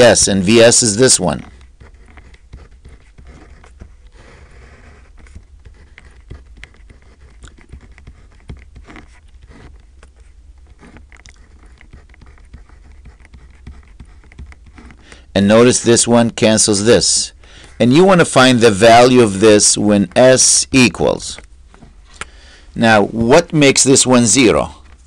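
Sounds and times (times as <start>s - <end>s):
marker scratching on paper: 0.0s - 21.5s, 22.8s - 25.0s.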